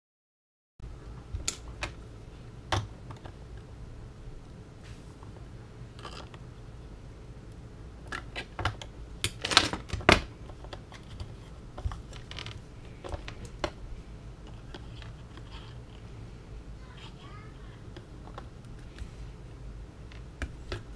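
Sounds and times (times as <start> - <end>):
steady low hum: 0.8 - 20.9.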